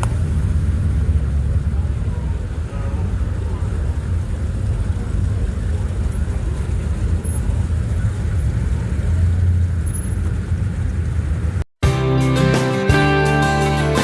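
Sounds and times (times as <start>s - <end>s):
car engine rumbling: 0.0s - 11.7s.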